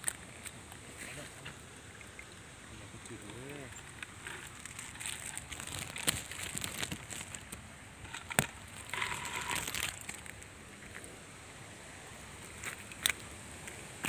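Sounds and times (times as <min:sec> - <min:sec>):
netting rustling and crackling: 0:00.0 - 0:11.2, 0:12.1 - 0:14.0.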